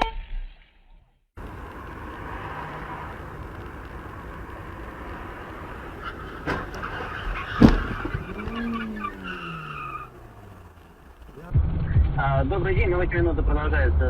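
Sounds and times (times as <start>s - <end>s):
car engine and road noise: 1.4s - 13.1s.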